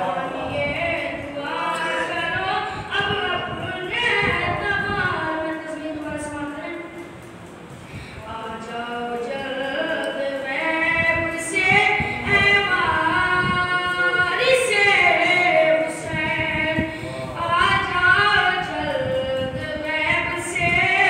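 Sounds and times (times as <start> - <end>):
boy singing into microphone: 0.0 - 7.3, 8.2 - 21.0.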